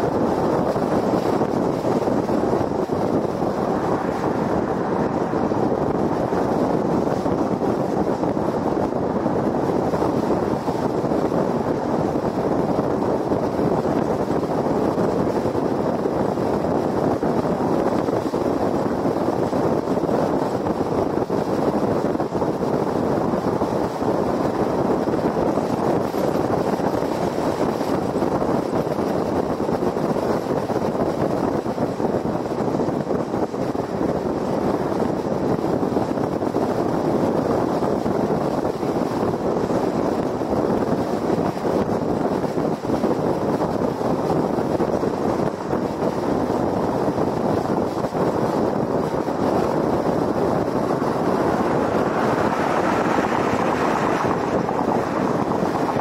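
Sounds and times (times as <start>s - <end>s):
wind rush: 0.0s - 56.0s.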